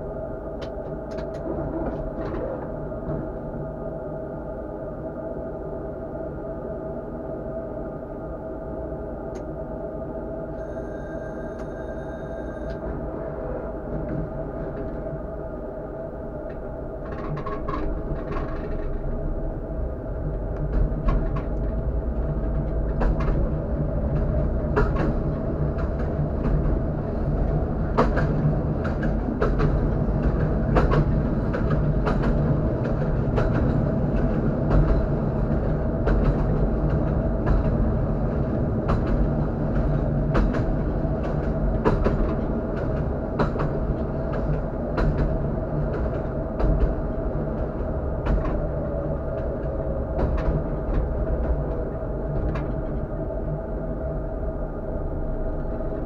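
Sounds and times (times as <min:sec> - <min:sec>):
tram hum and rumble: 0:00.0 - 0:56.0.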